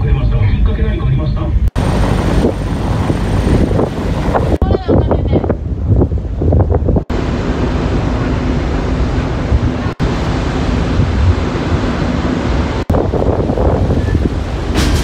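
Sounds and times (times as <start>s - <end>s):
wind buffeting microphone: 1.8s - 15.0s.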